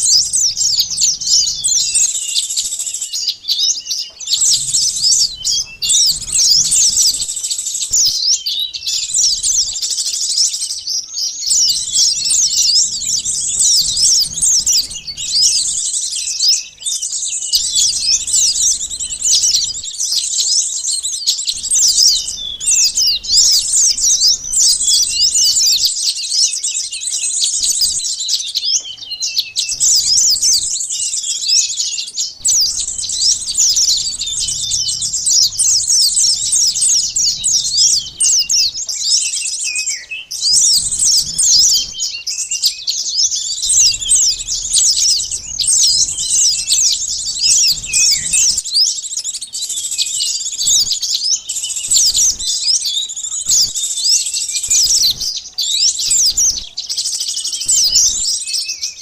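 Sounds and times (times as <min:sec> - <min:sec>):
birds chattering and chirping: 0:00.0 - 0:59.0.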